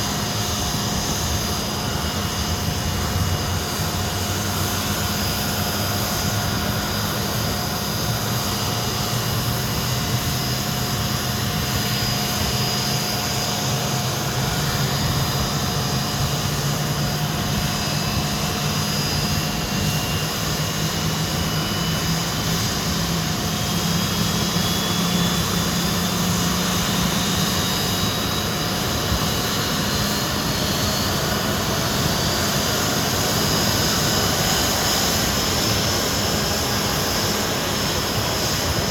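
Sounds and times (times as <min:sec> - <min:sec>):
jet engines roaring and whining: 0:00.0 - 0:38.9.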